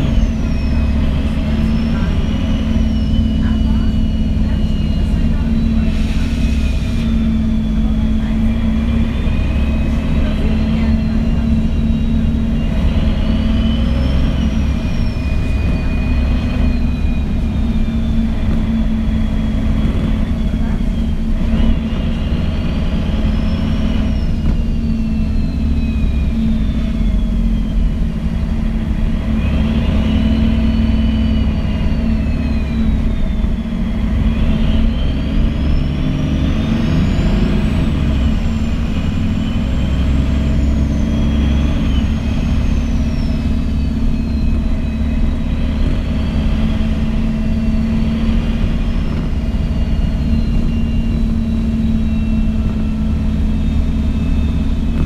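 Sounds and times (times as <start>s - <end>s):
bus diesel engine running: 0.0s - 55.0s
high drivetrain whine: 0.0s - 55.0s.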